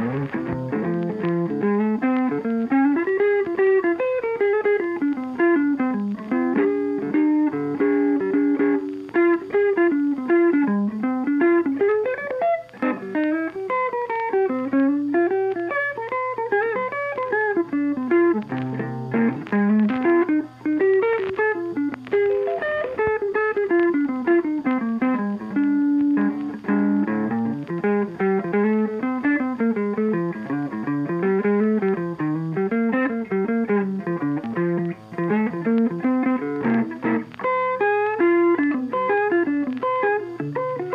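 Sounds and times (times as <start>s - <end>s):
plucked guitar melody: 0.0s - 40.9s.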